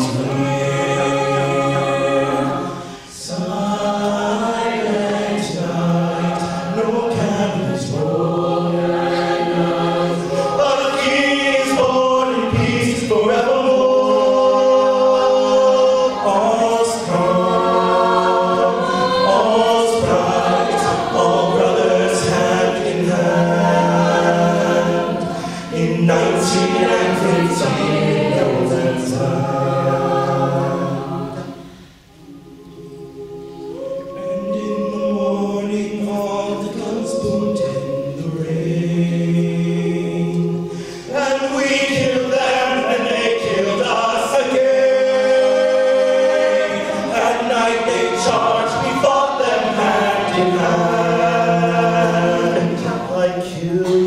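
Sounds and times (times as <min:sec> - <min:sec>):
a cappella choir singing: 0:00.0 - 0:54.0.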